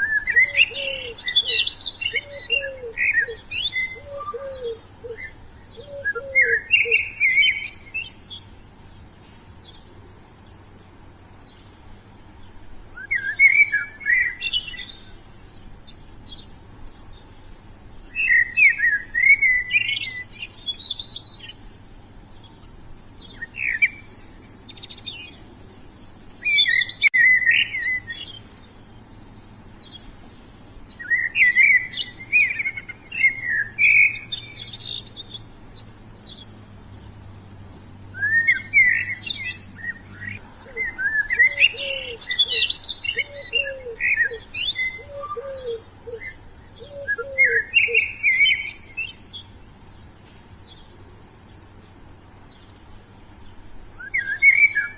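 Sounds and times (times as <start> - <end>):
lower bird call: 0.0 - 10.8, 11.4 - 51.8, 52.5 - 54.9
songbirds chirping: 0.0 - 54.9.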